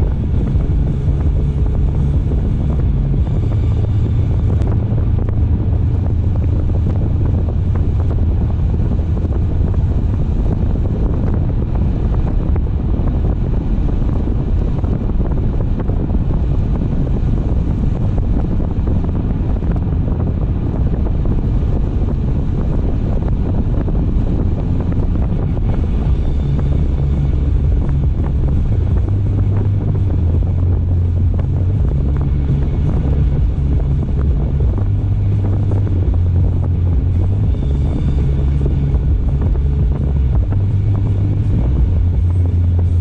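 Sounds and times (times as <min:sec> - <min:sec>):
car road and wind noise: 0:00.0 - 0:43.0
heavy low rumble: 0:00.0 - 0:43.0.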